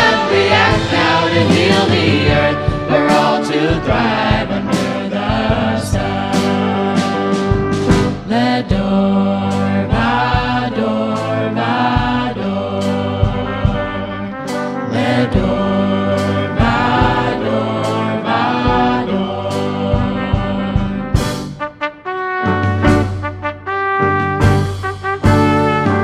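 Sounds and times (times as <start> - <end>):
trumpet: 0.0 - 8.4, 12.4 - 26.0
drums keeping a steady beat: 0.0 - 26.0
piano: 0.0 - 26.0.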